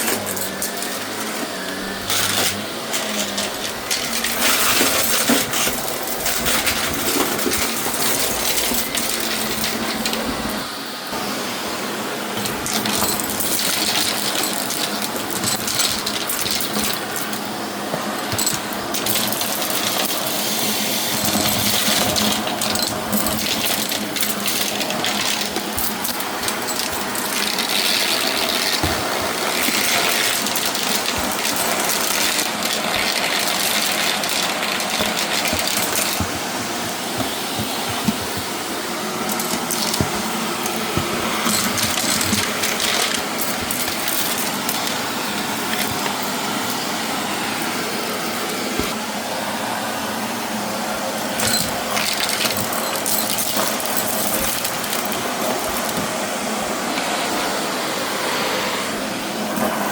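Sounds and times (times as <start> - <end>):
debris rattling through vacuum: 0.0 - 11.4, 12.2 - 49.7, 51.2 - 58.2
vacuum cleaner motor humming: 0.0 - 59.9.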